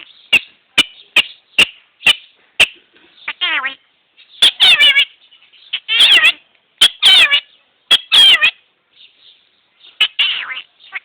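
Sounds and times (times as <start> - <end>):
parrot calls: 0.0 - 3.8, 4.4 - 8.6, 10.0 - 11.0.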